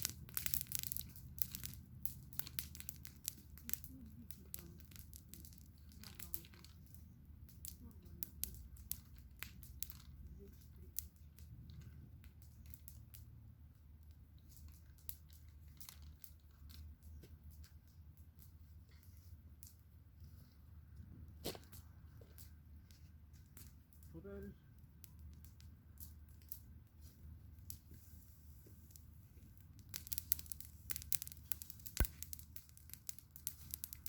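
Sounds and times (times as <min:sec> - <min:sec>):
burning wood snapping and popping: 0:00.0 - 0:20.0, 0:20.9 - 0:28.0, 0:28.6 - 0:34.0
low fire rumble: 0:00.0 - 0:34.0.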